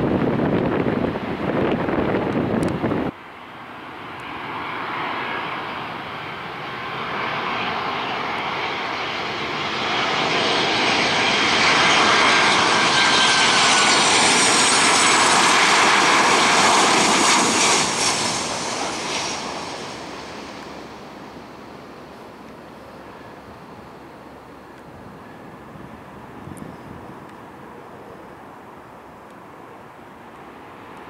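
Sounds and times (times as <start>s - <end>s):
jet engines whining: 0.1s - 31.0s.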